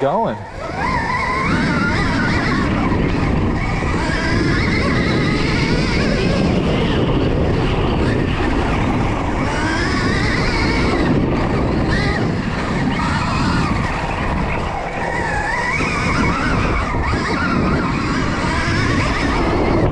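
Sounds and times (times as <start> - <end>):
electric motorbike motor whine: 0.0 - 19.9
steady rushing noise: 0.0 - 19.9.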